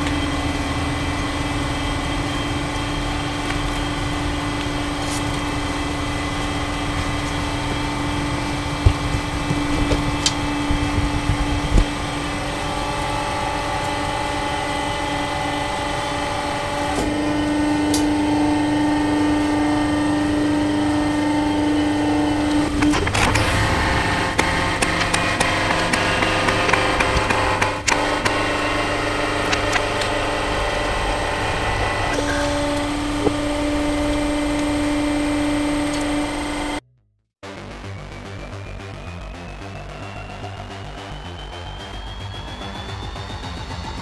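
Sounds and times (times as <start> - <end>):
hydraulic pump humming: 0.0 - 36.8.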